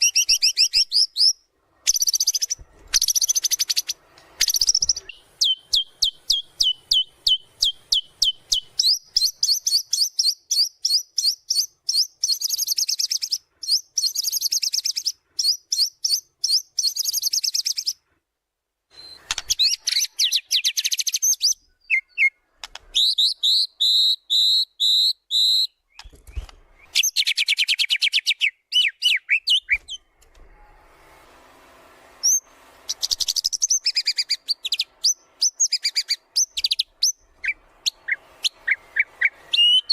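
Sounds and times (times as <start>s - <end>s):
bird singing: 0.0s - 18.0s, 18.9s - 30.1s, 32.2s - 39.9s.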